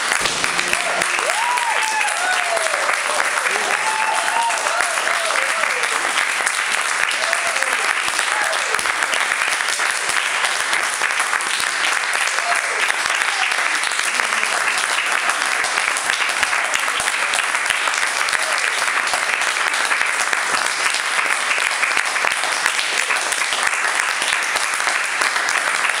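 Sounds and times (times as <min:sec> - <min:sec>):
audience applauding: 0:00.0 - 0:26.0.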